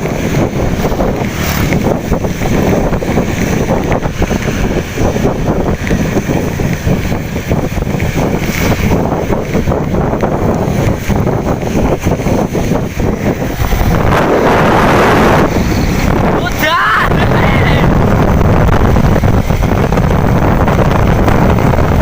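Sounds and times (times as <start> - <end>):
heavy rain: 0.0 - 22.0
wind buffeting microphone: 0.0 - 22.0.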